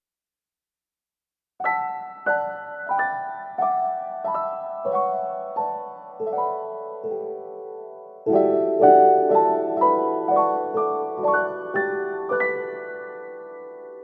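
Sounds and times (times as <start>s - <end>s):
slow solo piano melody: 1.6s - 14.0s.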